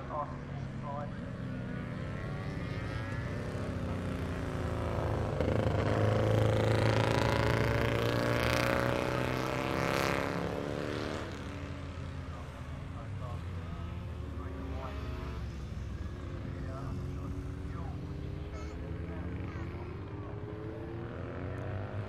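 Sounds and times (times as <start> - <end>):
racing motorcycles passing: 0.0 - 22.0.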